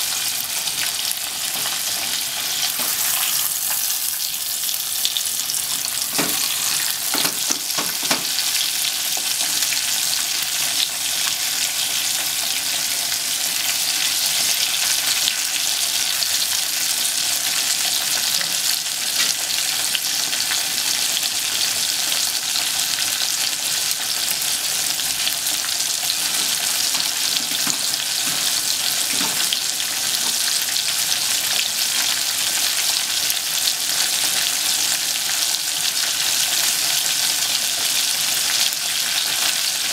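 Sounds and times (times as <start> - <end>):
cutlets deep-frying in oil: 0.0 - 39.9.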